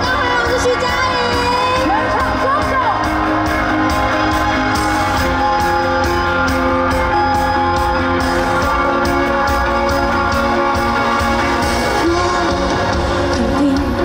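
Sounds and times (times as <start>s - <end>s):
guitar: 0.0s - 14.0s
live band playing: 0.0s - 14.0s.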